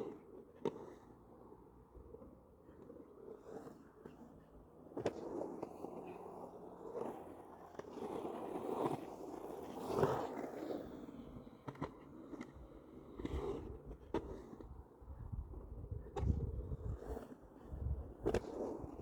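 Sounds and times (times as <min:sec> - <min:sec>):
skateboard wheels rolling on rough ground: 0:00.0 - 0:19.0.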